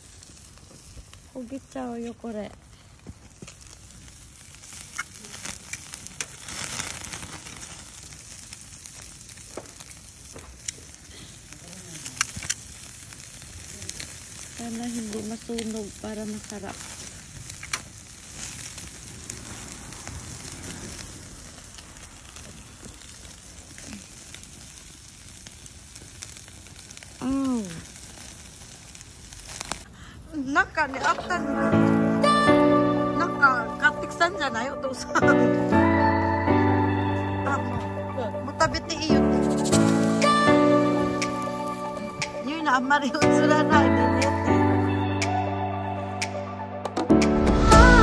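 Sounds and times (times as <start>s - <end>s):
meat sizzling on a grill: 0.0s - 45.3s
fire crackling and popping: 0.0s - 48.0s.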